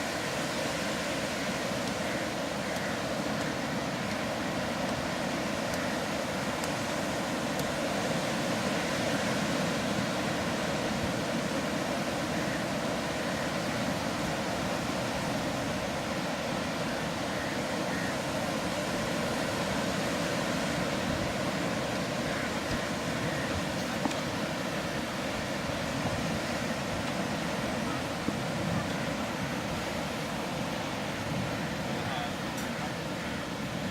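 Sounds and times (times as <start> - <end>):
sea surf: 0.0 - 33.9
wind: 0.0 - 33.9.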